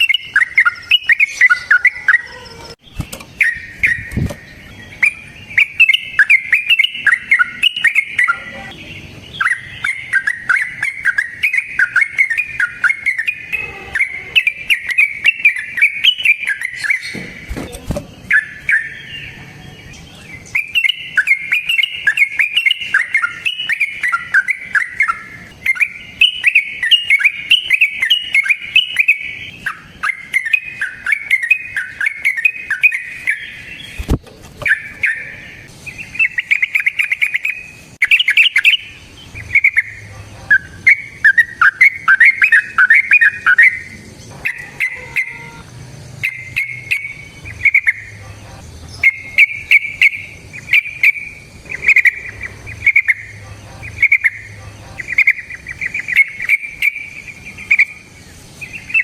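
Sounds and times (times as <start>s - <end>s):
bird warbling song: 0.0s - 59.0s.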